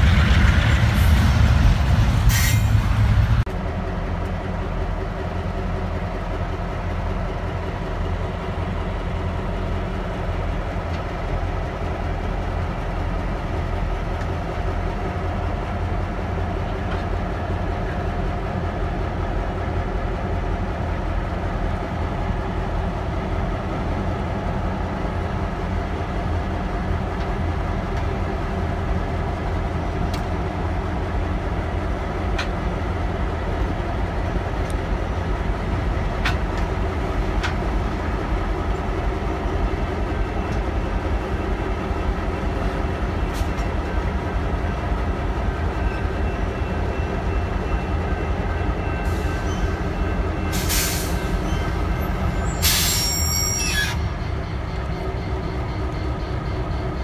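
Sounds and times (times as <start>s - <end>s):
locomotive engine rumble: 0.0s - 57.0s.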